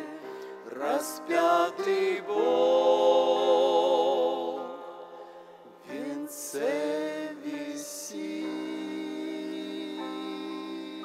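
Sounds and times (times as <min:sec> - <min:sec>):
vocal trio singing a hymn: 0:00.0 - 0:11.0.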